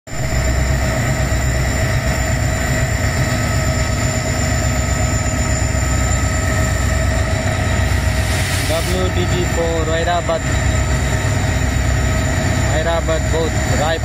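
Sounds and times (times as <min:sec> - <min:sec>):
diesel locomotive passing: 0:00.1 - 0:14.0.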